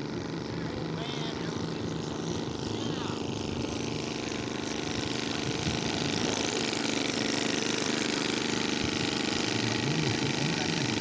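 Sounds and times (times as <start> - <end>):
model airplane engine running: 0.0 - 11.0.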